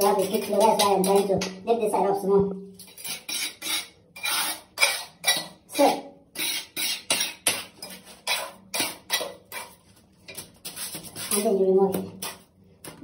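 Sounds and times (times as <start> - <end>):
trowel scraping wet mortar: 0.0 - 1.4, 2.8 - 12.5.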